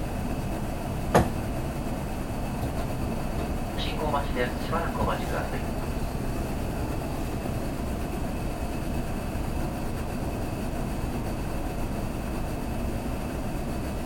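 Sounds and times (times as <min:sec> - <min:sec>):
faint high hum: 0:00.0 - 0:14.0
train car rumble and hiss: 0:00.0 - 0:14.0.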